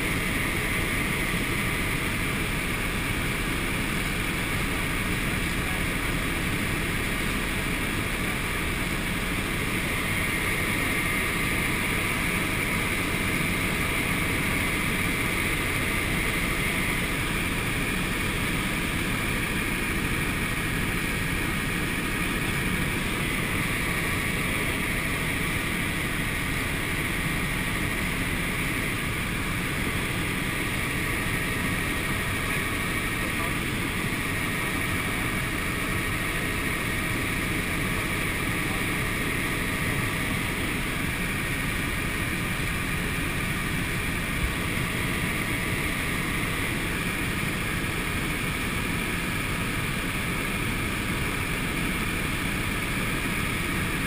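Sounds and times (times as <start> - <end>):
helicopter engine and rotors drone: 0.0 - 54.0.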